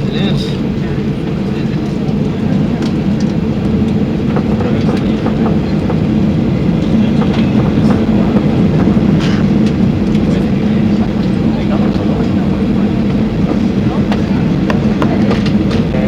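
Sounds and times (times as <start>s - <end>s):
jet engines and wheels rumbling: 0.0s - 16.0s.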